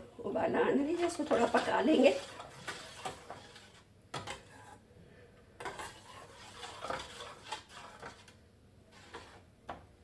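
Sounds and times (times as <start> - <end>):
metal spoon scraping a pan: 0.4 - 4.9, 5.6 - 9.5.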